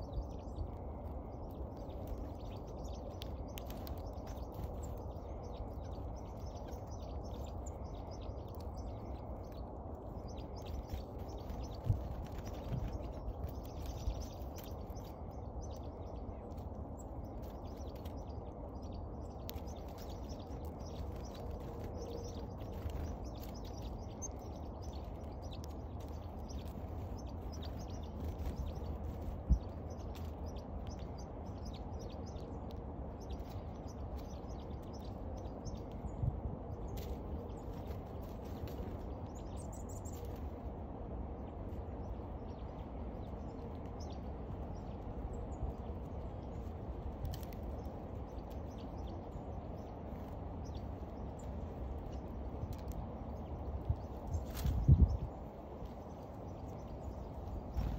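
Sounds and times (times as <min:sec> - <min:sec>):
low wind rumble: 0:00.0 - 0:57.9
small birds chirping: 0:00.0 - 0:57.9.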